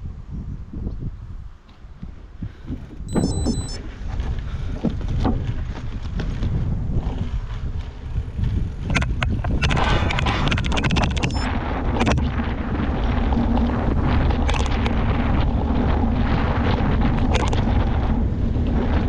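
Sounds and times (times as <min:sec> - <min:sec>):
wind buffeting microphone: 0:00.0 - 0:19.0
bike knocking and rattling: 0:01.7 - 0:19.0.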